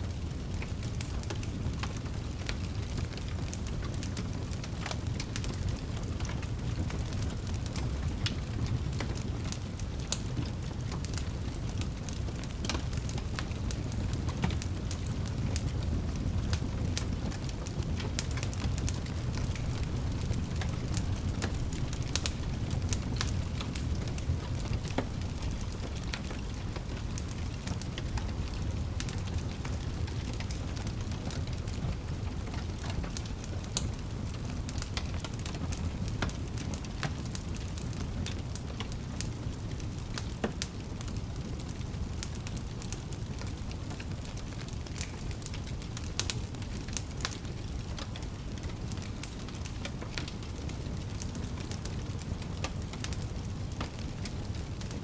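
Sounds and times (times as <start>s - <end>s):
fire popping and crackling: 0.0s - 55.0s
low rumble of flames: 0.0s - 55.0s.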